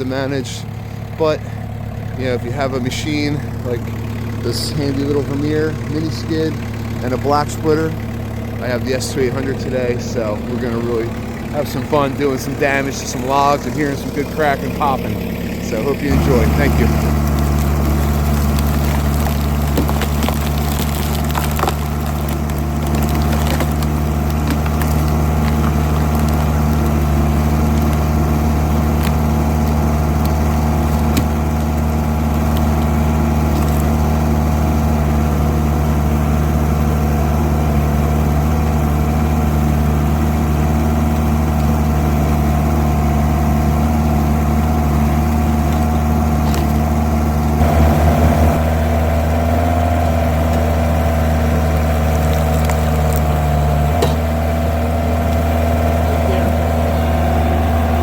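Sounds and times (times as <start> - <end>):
skid steer engine running: 0.0 - 58.0
wood cracking: 3.4 - 58.0.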